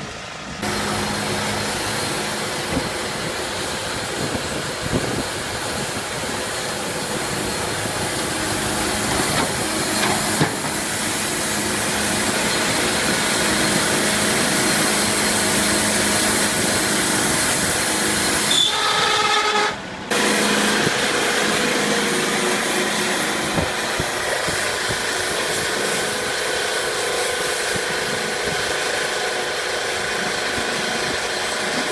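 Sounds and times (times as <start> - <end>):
sawmill machinery humming: 0.0 - 31.9.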